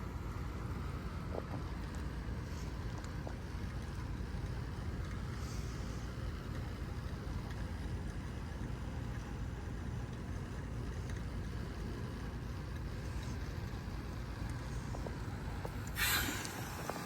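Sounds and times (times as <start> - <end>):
heat pump unit humming: 0.0 - 17.0.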